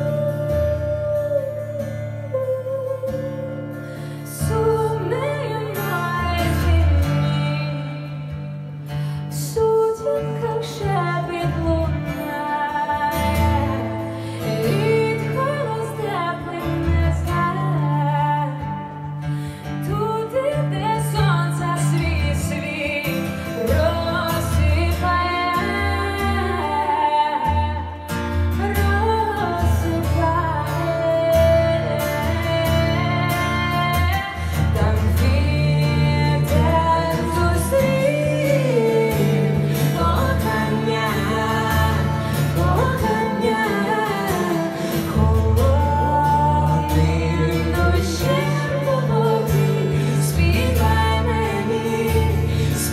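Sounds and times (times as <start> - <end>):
strummed acoustic guitar: 0.0 - 52.9
woman singing: 0.0 - 52.9.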